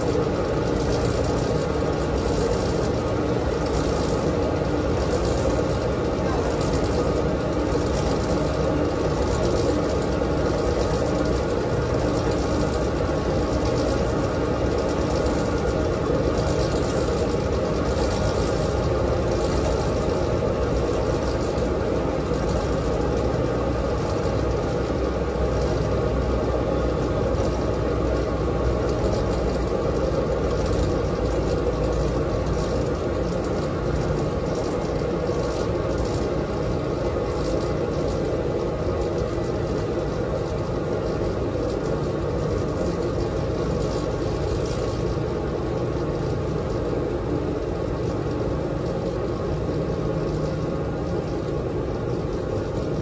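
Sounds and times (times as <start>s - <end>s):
washing machine humming: 0.0s - 53.0s.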